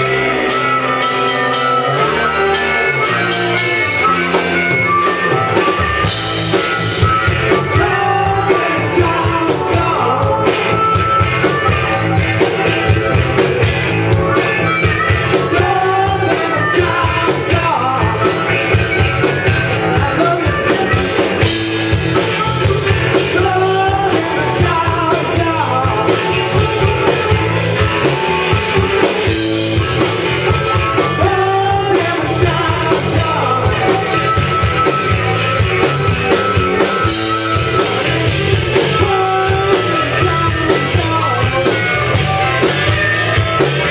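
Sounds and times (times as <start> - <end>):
drum kit: 0.0 - 43.9
electric guitars: 0.0 - 43.9
harmonica: 0.0 - 43.9
man singing: 5.8 - 13.5, 14.1 - 35.2, 35.8 - 43.9.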